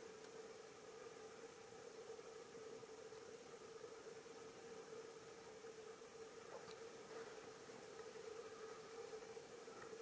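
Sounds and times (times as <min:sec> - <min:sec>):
faint steady hiss: 0:00.0 - 0:10.0
steady hum: 0:00.0 - 0:10.0.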